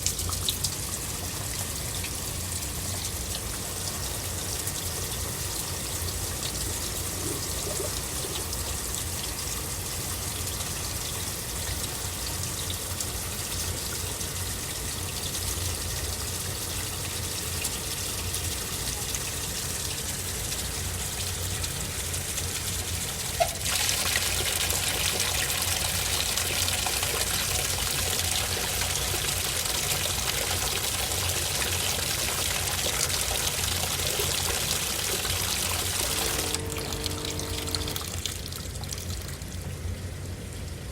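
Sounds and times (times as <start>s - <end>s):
water running into washing machine: 0.0s - 40.9s.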